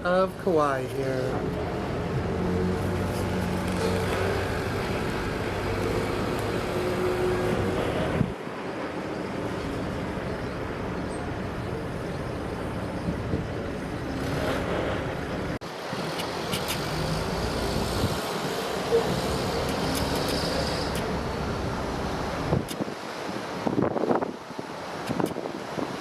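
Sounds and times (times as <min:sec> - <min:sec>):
ship engine rumble: 0:00.0 - 0:26.0
wind buffeting microphone: 0:01.4 - 0:15.6, 0:16.4 - 0:26.0.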